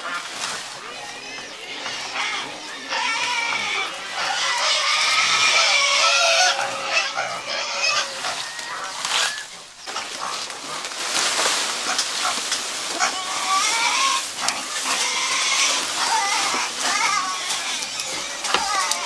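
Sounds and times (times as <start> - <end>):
animals squealing: 0.0 - 19.0
leafy fodder rustling: 0.0 - 19.0.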